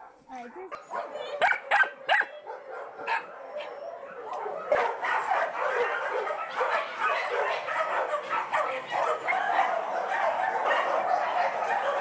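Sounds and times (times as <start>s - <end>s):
many dogs barking: 0.8s - 12.0s.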